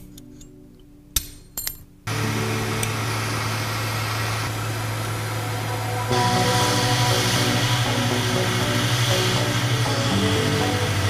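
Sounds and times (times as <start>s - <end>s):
hot-air blower humming: 2.1s - 11.0s.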